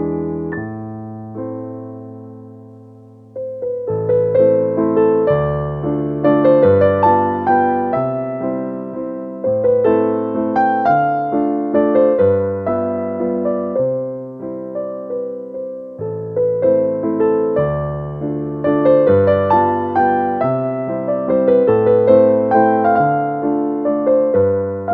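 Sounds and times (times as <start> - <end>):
gentle piano piece: 0.0 - 24.9.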